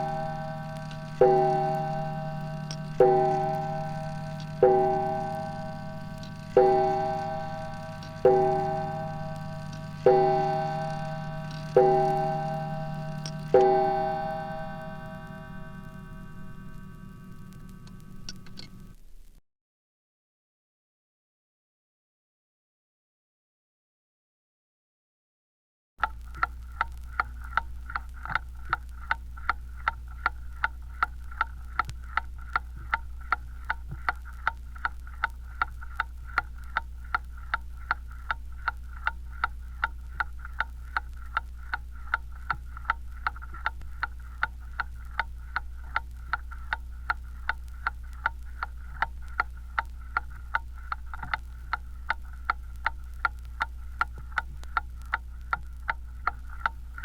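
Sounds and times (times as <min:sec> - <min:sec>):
clock ticking: 0:00.0 - 0:18.7, 0:26.0 - 0:57.0
low hum: 0:00.0 - 0:19.3, 0:26.0 - 0:57.0.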